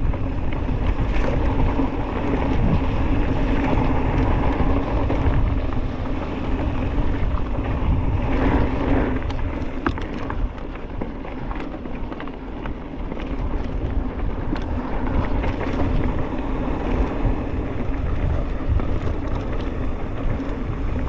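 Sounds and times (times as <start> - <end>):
bike clicks and rattles: 0.0 - 21.0
tyres rolling on dirt: 0.0 - 21.0
wind buffeting microphone: 0.0 - 21.0.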